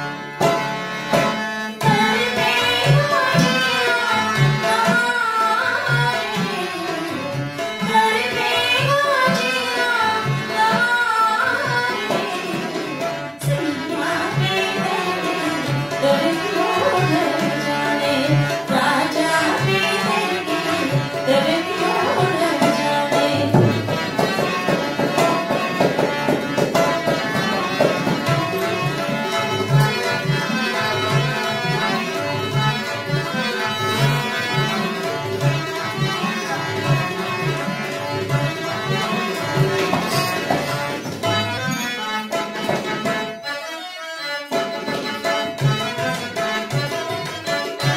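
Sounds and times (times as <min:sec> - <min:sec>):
sarangi gliding melody: 0:00.0 - 0:47.9
tabla rhythm: 0:00.0 - 0:47.9.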